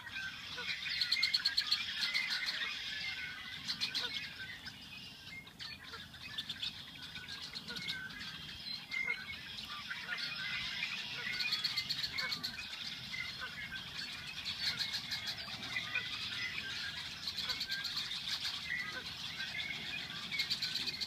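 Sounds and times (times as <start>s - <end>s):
blackbirds calling and singing: 0.0s - 21.0s.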